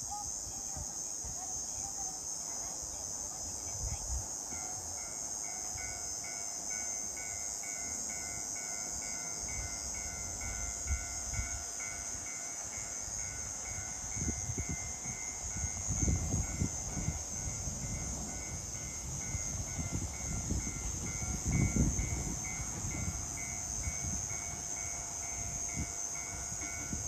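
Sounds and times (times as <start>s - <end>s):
insects chirring: 0.0s - 27.0s
level-crossing alarm ringing: 4.5s - 27.0s.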